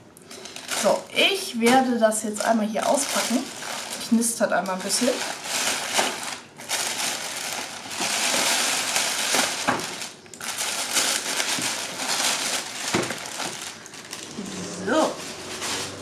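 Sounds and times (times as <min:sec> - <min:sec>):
plastic mailer bag crinkling: 0:00.3 - 0:14.4, 0:15.0 - 0:16.0.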